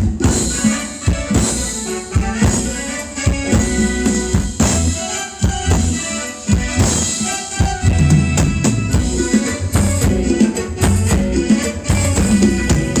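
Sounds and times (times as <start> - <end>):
band music: 0.0 - 13.0
bass drum and snare beat: 0.0 - 13.0.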